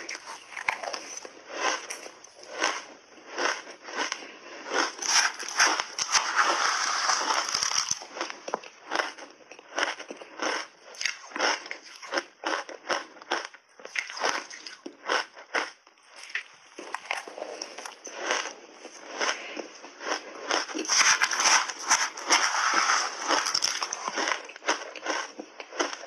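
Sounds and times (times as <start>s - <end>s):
crunching and chewing ice: 0.0s - 26.0s.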